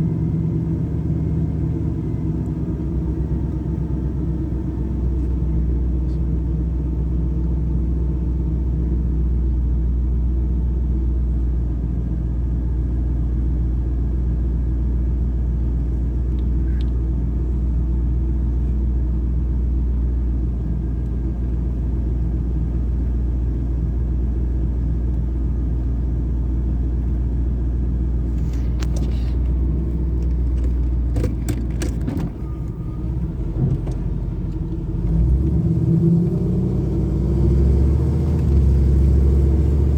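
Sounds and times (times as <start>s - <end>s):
car engine idling: 0.0s - 35.1s.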